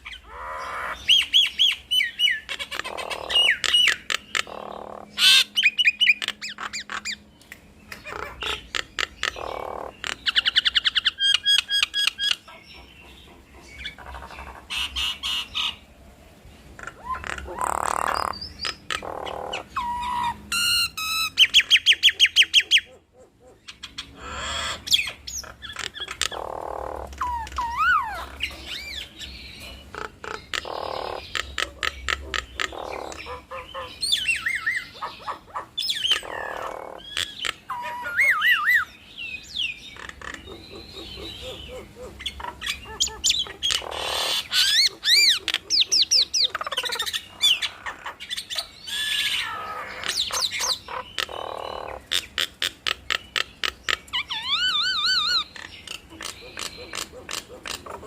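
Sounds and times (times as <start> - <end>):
harsh scratchy chattering calls: 0.0 - 7.3, 7.9 - 15.8, 16.8 - 22.8, 23.7 - 38.8, 39.9 - 58.0
birds singing duet: 0.0 - 58.0.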